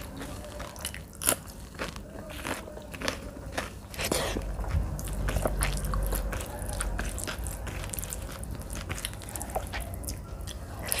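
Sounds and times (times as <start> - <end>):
close chewing with wet smacks: 0.0 - 11.0.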